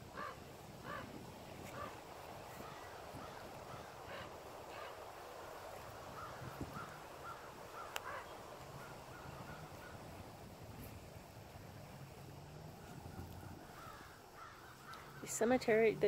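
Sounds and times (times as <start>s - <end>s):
faint distant birds calling: 0.0s - 16.0s.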